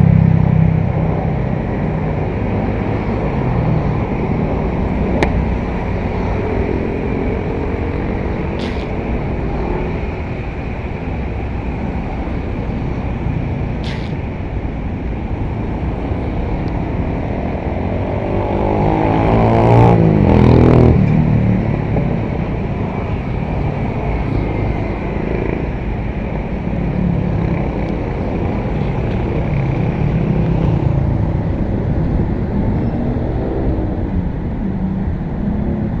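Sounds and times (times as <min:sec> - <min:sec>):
engines running: 0:00.0 - 0:36.0.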